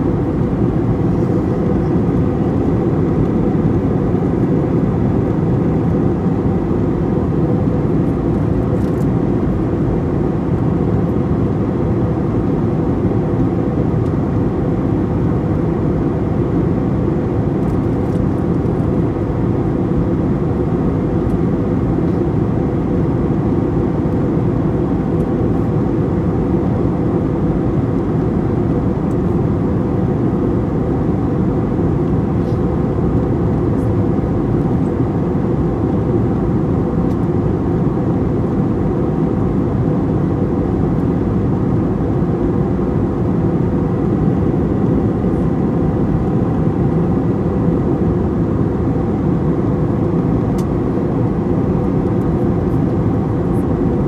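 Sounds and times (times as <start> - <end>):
jet engine roar in cabin: 0.0 - 54.0.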